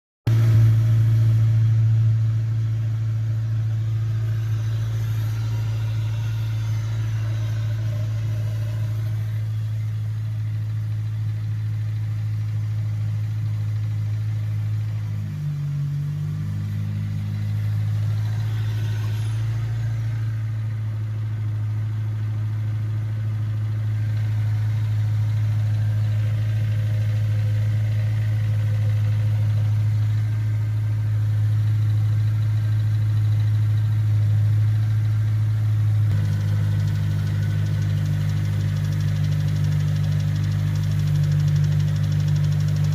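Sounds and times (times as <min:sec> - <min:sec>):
car engine idling: 0:00.3 - 0:42.9.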